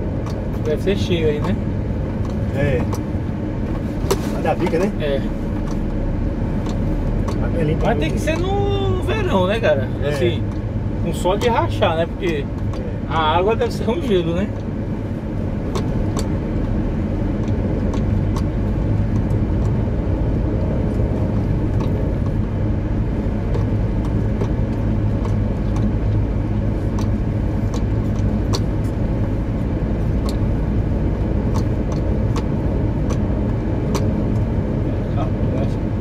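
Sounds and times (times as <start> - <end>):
car engine and tyres rumbling: 0.0 - 36.0.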